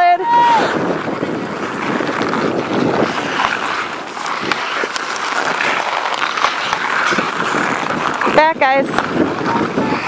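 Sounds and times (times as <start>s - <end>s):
skate blades scraping ice: 0.0s - 10.0s
hockey sticks and puck clacking: 0.2s - 10.0s.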